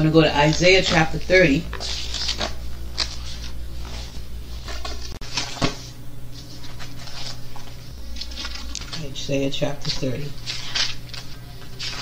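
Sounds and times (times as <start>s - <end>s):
low hum: 0.0s - 12.0s
pages rustling: 0.4s - 9.2s, 9.8s - 12.0s.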